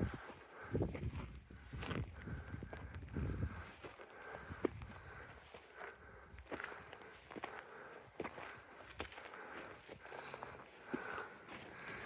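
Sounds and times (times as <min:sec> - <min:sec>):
footsteps on rocky ground: 0:00.0 - 0:12.0.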